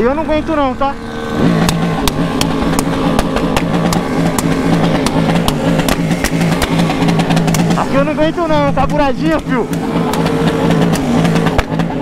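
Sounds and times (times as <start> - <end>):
motorcycle engines riding in convoy: 0.0 - 12.0
sharp ticks: 1.6 - 12.0.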